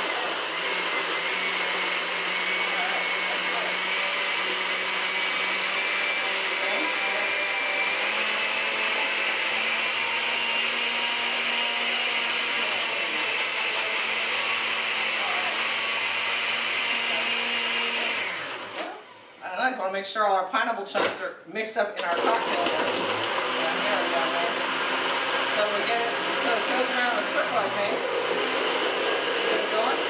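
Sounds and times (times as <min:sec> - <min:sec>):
blender crushing ice: 0:00.0 - 0:19.4, 0:22.0 - 0:30.0.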